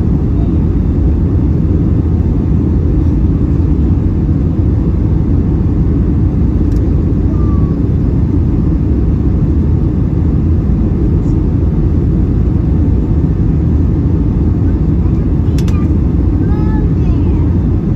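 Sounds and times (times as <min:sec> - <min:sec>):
aircraft cabin engine rumble: 0:00.0 - 0:17.9.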